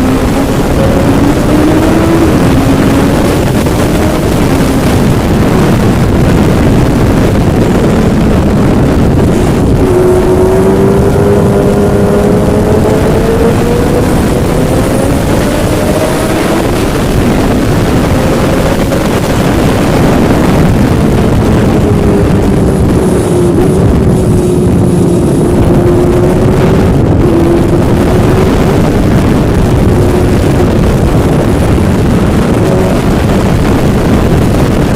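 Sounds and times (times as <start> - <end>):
engine running: 0.0 - 34.9
wind noise on microphone: 0.0 - 34.9.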